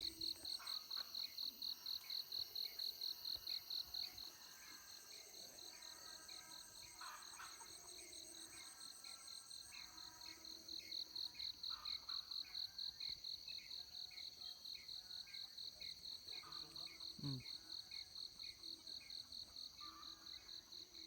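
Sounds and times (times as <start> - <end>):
cricket chirping: 0.0 - 21.0
insect chorus: 0.0 - 21.0.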